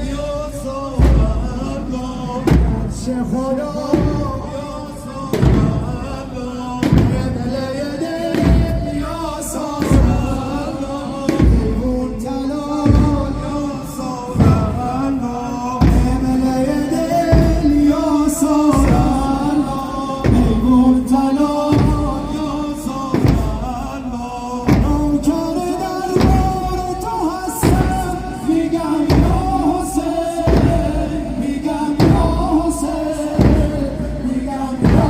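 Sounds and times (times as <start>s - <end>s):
heavy drum beat: 0.0s - 35.0s
mourners singing lament: 0.0s - 35.0s.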